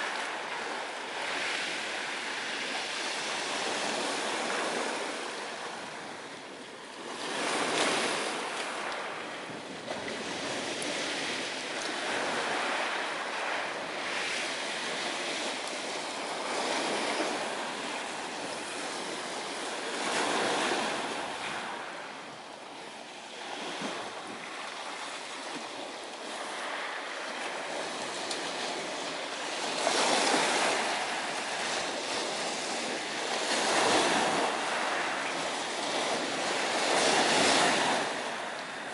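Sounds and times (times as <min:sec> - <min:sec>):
waves washing onto shore: 0:00.0 - 0:38.9.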